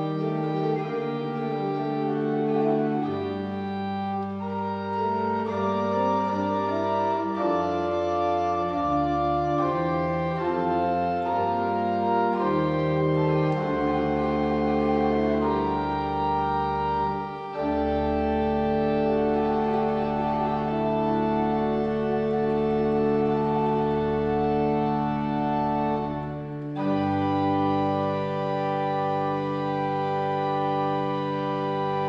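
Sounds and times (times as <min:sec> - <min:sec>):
pipe organ playing: 0:00.0 - 0:32.0.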